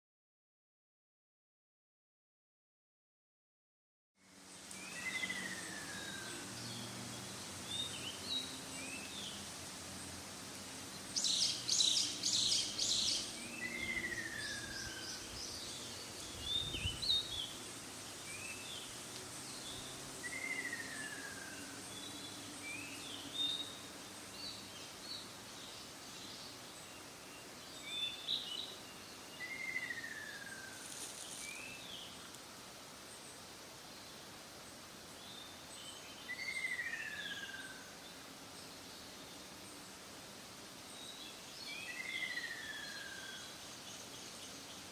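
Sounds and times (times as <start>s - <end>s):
small birds chirping: 4.2s - 44.9s.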